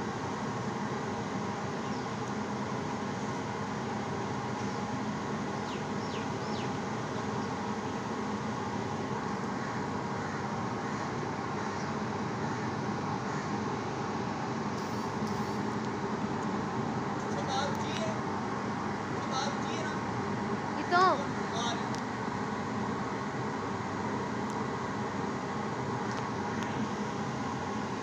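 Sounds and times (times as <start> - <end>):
urban traffic hum: 0.0 - 28.0.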